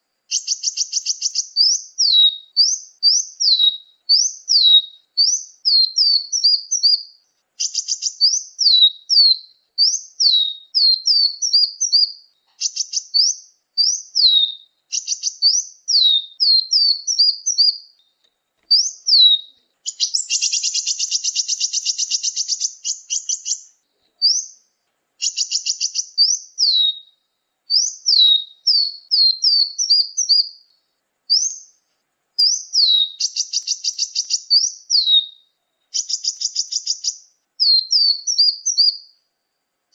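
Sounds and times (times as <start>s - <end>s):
songbird chattering trills: 0.3s - 18.1s, 18.7s - 24.6s, 25.2s - 27.1s, 27.7s - 30.7s, 31.3s - 31.8s, 32.4s - 39.1s.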